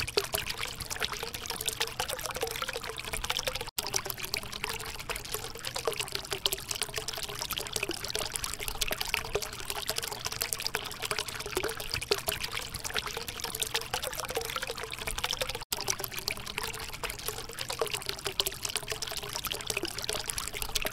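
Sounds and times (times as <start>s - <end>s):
fountain water splashing: 0.0s - 20.9s.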